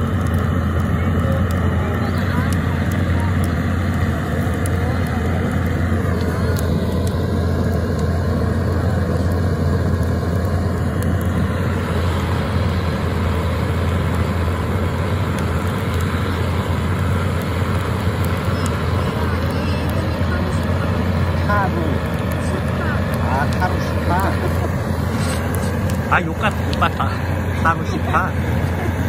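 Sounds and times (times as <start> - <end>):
faint crackles of burning wood: 0.0 - 29.0
gas torch burner roaring: 0.0 - 29.0.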